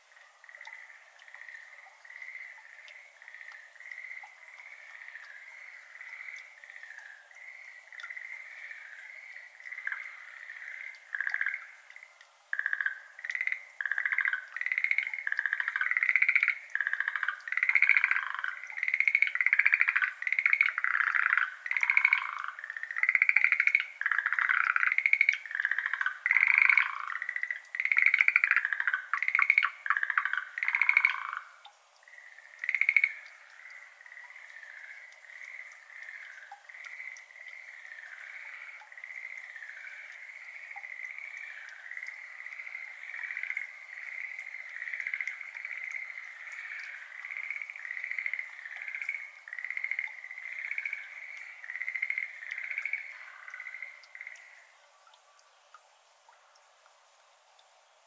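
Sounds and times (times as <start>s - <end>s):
tree frogs croaking: 0.0s - 58.0s.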